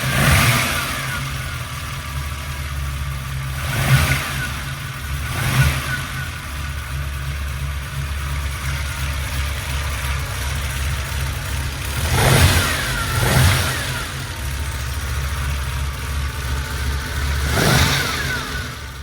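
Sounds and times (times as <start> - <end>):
car engine idling: 0.0 - 19.0
engine revving: 0.0 - 19.0.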